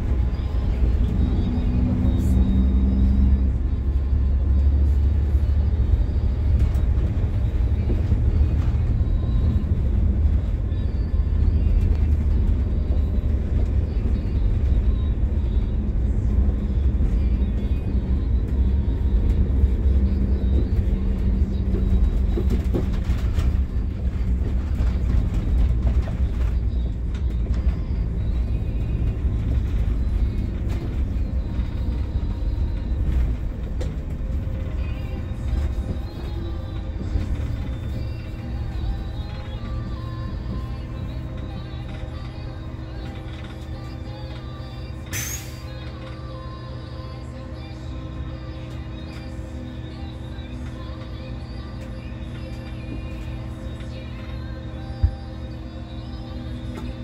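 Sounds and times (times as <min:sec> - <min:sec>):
bus engine drone: 0:00.0 - 0:57.0
faint music: 0:00.0 - 0:57.0.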